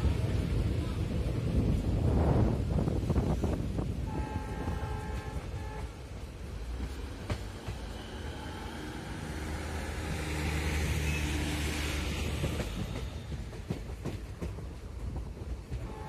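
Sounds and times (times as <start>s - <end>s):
train wheels rumbling on rail: 0.0s - 16.0s
rail joint clicks: 3.0s - 16.0s.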